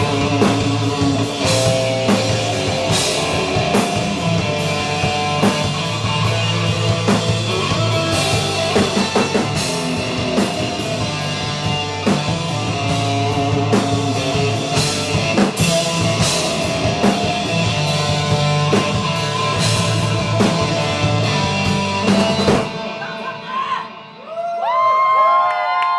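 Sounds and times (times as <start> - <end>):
rock band playing: 0.0 - 25.3.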